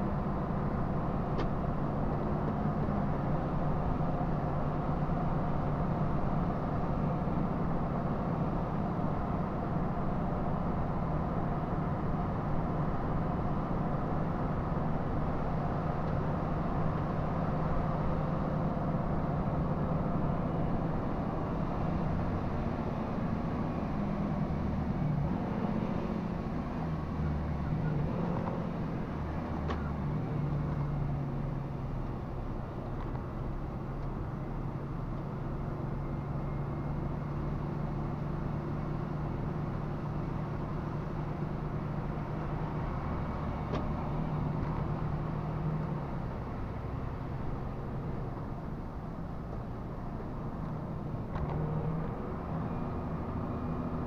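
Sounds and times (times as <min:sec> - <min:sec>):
road noise: 0:00.0 - 0:54.0
truck engine drone: 0:00.0 - 0:54.0.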